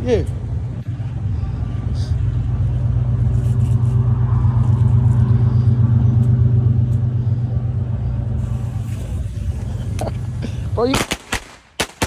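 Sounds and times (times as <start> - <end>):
engine running: 0.0 - 10.9.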